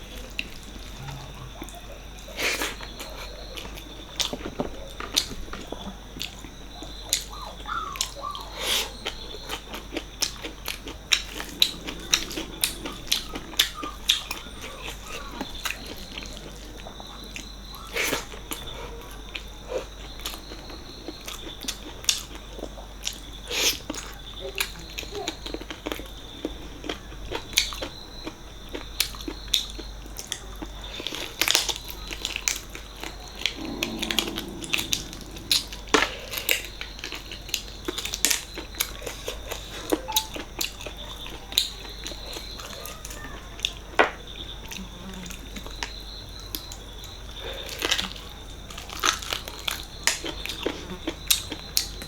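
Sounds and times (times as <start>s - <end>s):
person chewing wet food: 0.2s - 42.9s, 43.6s - 52.0s.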